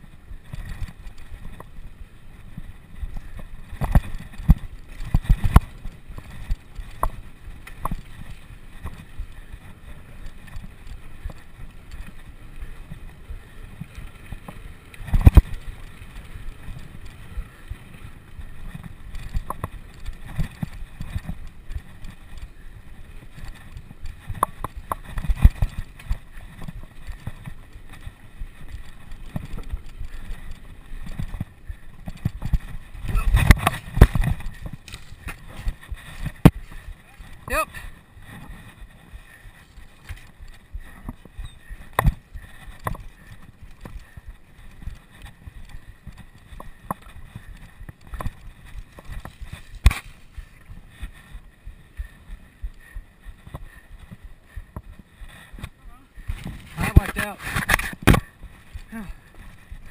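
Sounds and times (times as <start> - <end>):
bicycle rattling over rough ground: 0.0 - 59.9.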